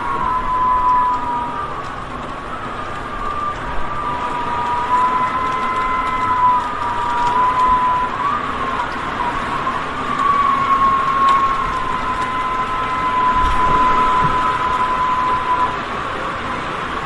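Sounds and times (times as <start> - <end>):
strong wind whistling: 0.0 - 17.0.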